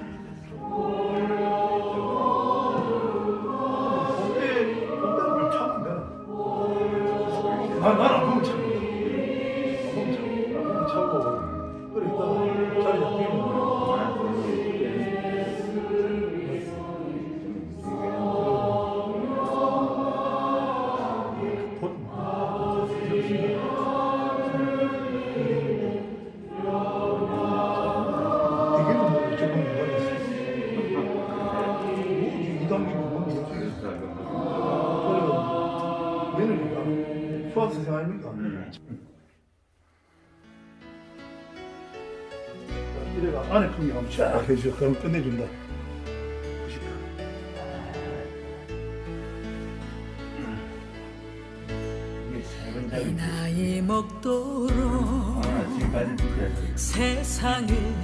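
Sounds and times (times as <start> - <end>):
choir singing: 0.0 - 39.0, 41.1 - 58.0.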